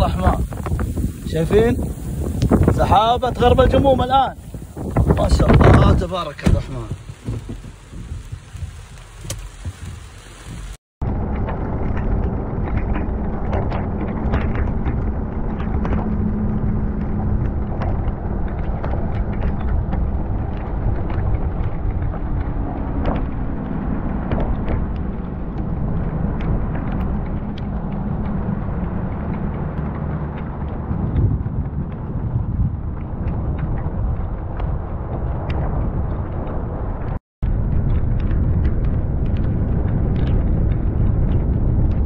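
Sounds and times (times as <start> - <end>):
wind and tyre noise: 0.0 - 42.0
low engine hum: 4.4 - 42.0.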